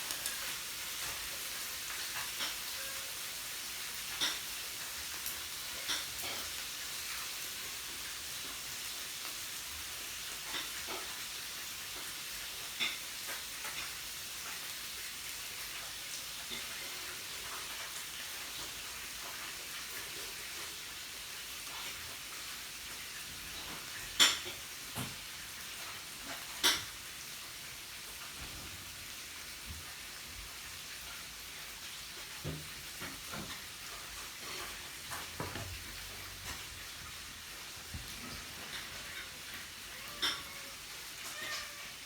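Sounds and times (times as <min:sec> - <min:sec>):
meat sizzling on a grill: 0:00.0 - 0:42.0.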